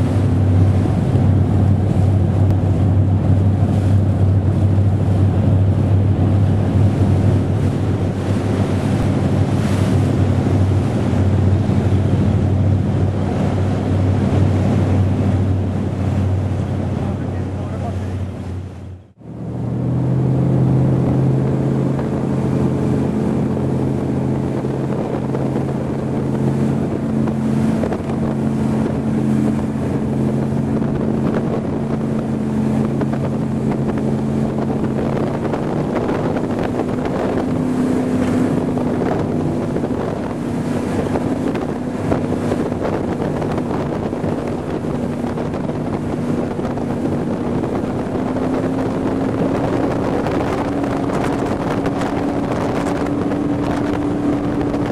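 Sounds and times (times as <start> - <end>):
powerboat engine running: 0.0 - 54.9
wind buffeting microphone: 0.0 - 54.9.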